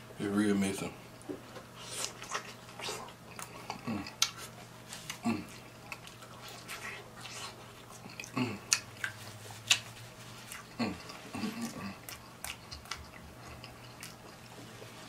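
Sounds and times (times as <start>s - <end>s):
chewing and crunching fried food: 1.5s - 15.0s.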